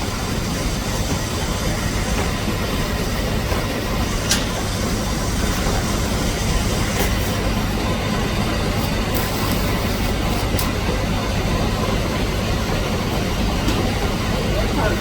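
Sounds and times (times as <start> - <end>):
machine running with low hum: 0.0 - 15.0.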